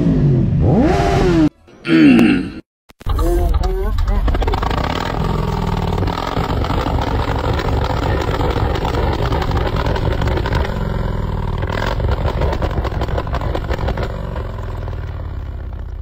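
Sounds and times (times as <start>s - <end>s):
motorcycle engine revving: 0.0s - 1.5s, 3.9s - 16.0s.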